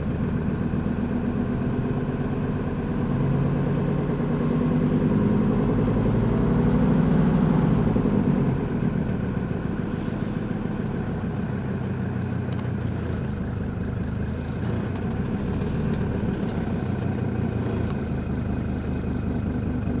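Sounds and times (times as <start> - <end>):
diesel engine knocking and ticking: 0.0 - 20.0.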